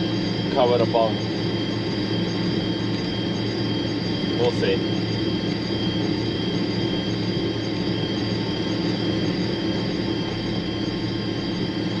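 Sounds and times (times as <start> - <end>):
harvester engine drone: 0.0 - 12.0
high-pitched whine: 0.0 - 12.0.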